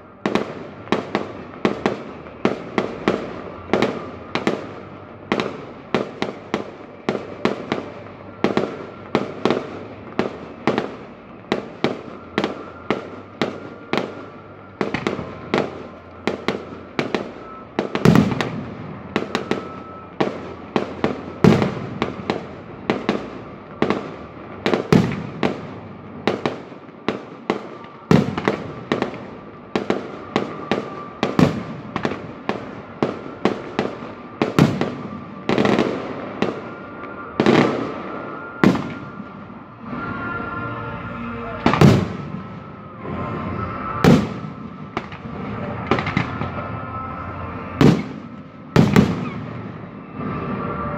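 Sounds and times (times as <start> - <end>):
deep fireworks booms: 0.0 - 40.1, 41.5 - 50.9
fireworks sharp bangs: 0.0 - 50.9.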